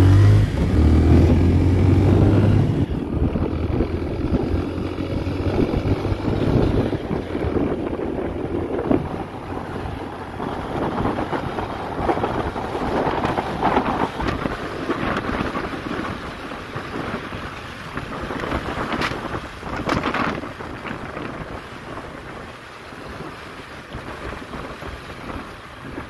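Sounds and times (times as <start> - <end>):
road and engine noise: 0.0 - 26.0
wind buffeting microphone: 0.0 - 26.0.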